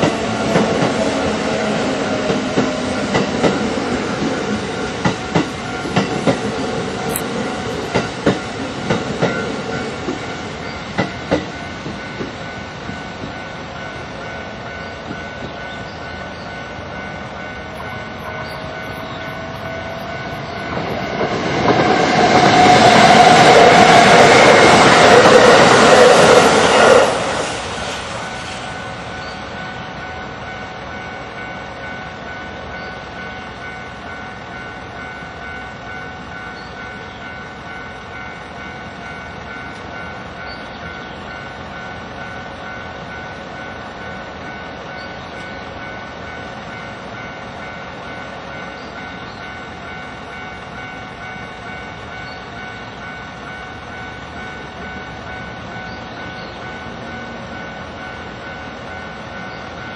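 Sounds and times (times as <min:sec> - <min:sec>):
level crossing warning bell: 0:00.0 - 0:26.1, 0:28.8 - 0:59.9
passing train running noise: 0:00.0 - 0:59.9.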